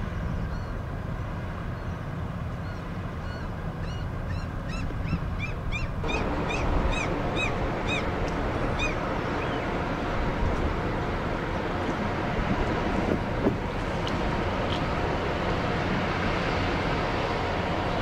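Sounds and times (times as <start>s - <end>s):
ship engine rumble: 0.0s - 18.0s.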